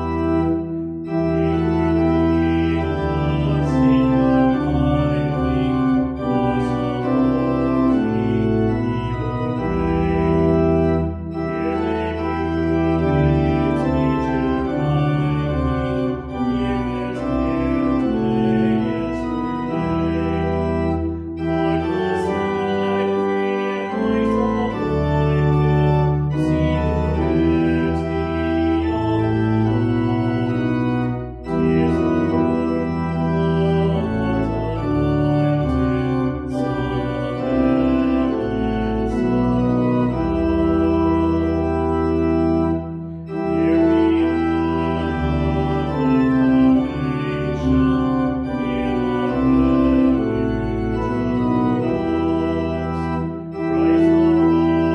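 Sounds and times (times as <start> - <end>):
organ playing slow chords: 0.0 - 54.9.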